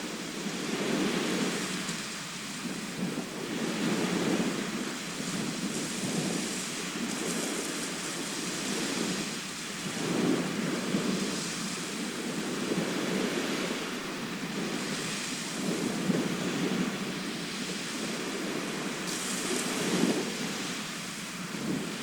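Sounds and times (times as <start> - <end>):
sea waves breaking: 0.0 - 22.0.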